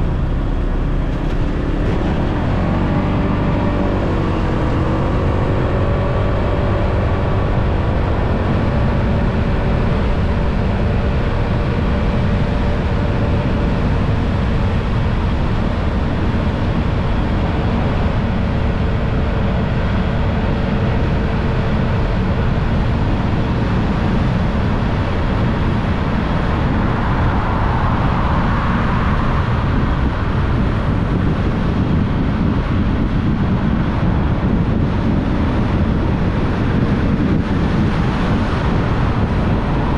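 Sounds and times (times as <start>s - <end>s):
road rumble: 0.0s - 39.9s
wind on microphone: 0.0s - 39.9s.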